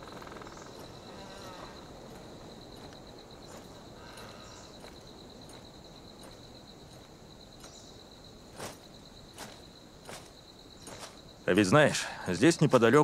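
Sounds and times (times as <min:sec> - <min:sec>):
footsteps on forest floor: 0:00.0 - 0:11.3
insect trill: 0:00.0 - 0:13.0.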